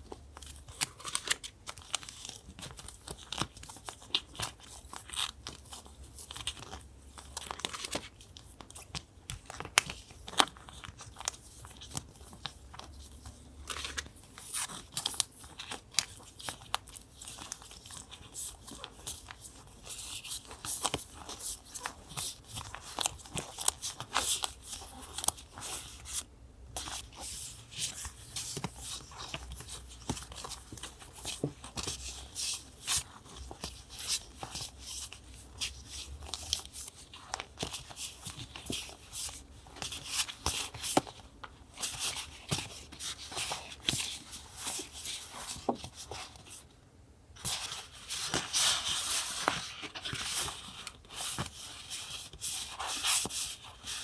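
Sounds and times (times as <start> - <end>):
paper crinkling and rustling: 0.0 - 46.7, 47.4 - 54.0.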